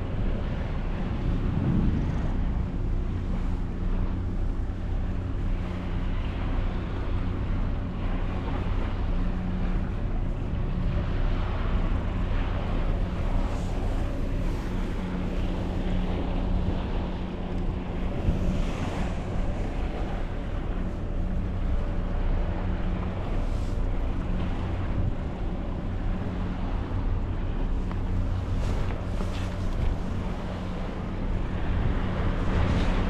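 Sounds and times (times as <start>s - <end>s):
sea waves washing: 0.0s - 33.0s
wind buffeting microphone: 0.0s - 33.0s.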